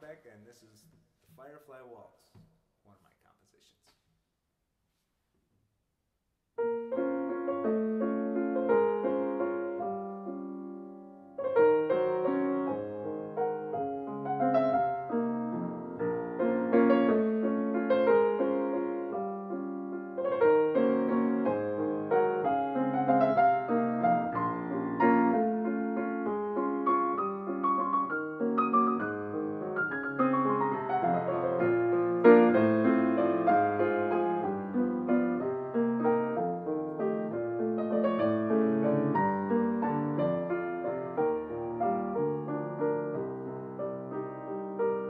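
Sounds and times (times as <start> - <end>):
solo grand piano playing: 6.6 - 45.0.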